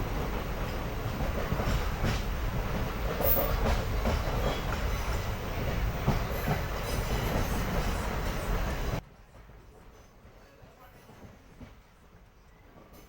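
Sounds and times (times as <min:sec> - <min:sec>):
train wheels rumbling on rails: 0:00.0 - 0:13.0
clacks over rail joints: 0:00.1 - 0:12.0.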